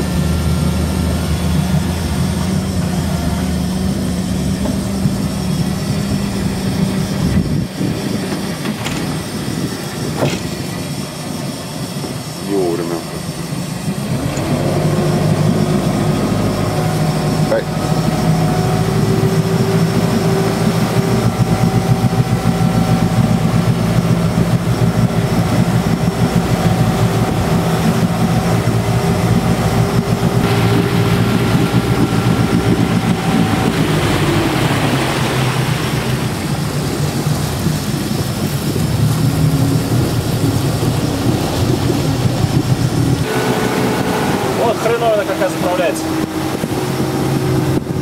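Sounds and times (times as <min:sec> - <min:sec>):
wind rushing: 0:00.0 - 0:12.5, 0:13.1 - 0:48.0
churned water hissing: 0:00.0 - 0:48.0
motorboat engine hum: 0:00.0 - 0:48.0.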